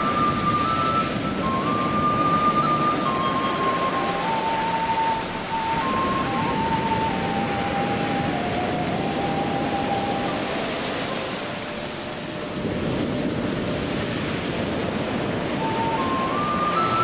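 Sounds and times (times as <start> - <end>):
soft melody of held notes: 0.0 - 13.9, 14.8 - 17.0
sea waves washing onto shore: 0.0 - 17.0.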